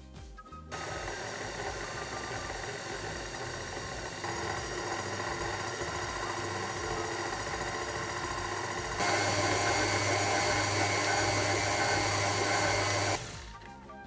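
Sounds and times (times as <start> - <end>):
stand mixer motor humming: 0.7 - 13.9.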